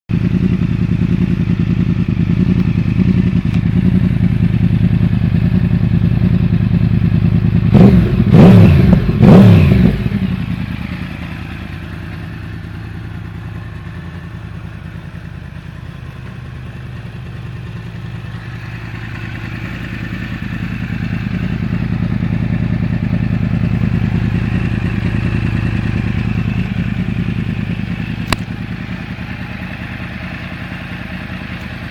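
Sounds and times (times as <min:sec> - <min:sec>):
motorcycle engine idling: 0:00.1 - 0:31.9
motorcycle throttle blips: 0:00.1 - 0:31.9.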